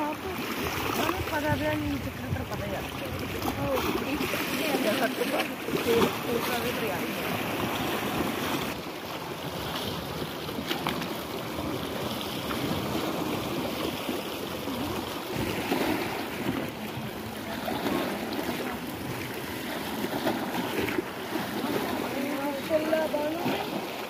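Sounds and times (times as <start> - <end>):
wind on microphone: 0.0 - 8.8, 9.4 - 23.8
waves splashing on rocks: 0.0 - 24.0.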